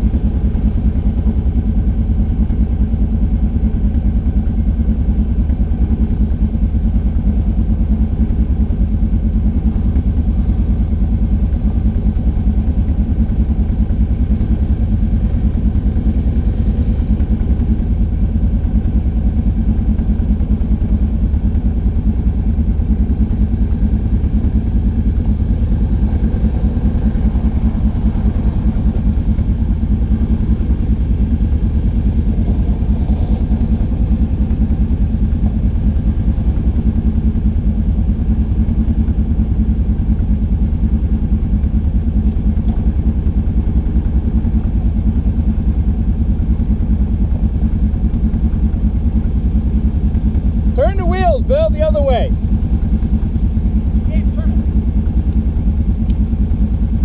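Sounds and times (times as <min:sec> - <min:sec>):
quad engine running steadily: 0:00.0 - 0:57.0.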